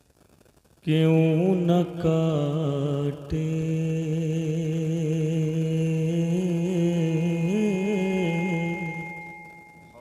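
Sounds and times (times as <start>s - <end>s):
man singing long note: 0.9s - 10.0s.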